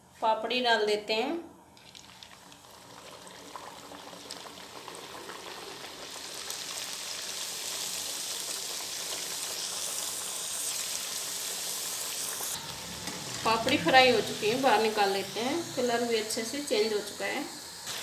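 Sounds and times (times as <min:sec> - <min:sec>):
dough deep-frying in oil: 0:01.7 - 0:18.0.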